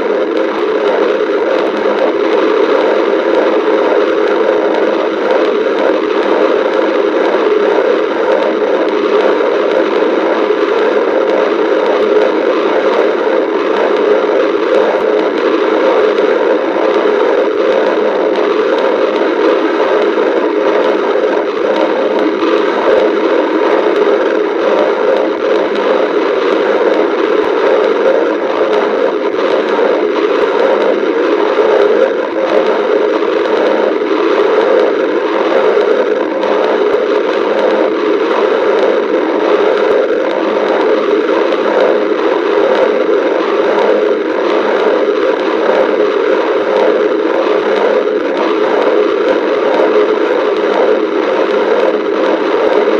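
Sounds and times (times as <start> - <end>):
stomach growling and gurgling: 0.0 - 52.9.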